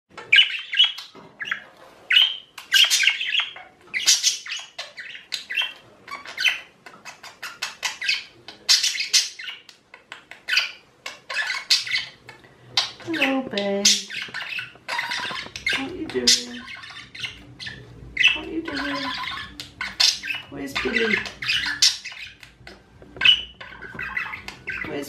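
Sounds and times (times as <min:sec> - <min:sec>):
budgerigars chattering: 0:00.1 - 0:25.0.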